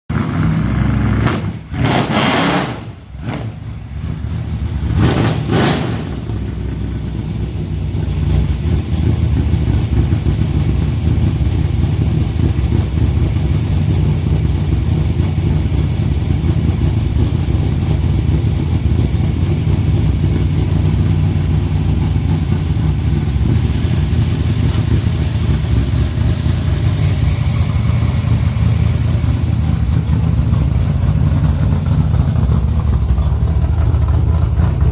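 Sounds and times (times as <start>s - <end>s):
truck engine running: 0.1s - 34.9s.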